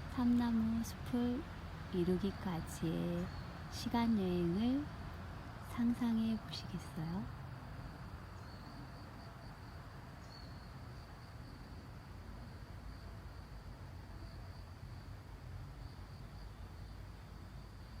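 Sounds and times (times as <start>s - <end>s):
faint low rumble: 0.0s - 18.0s.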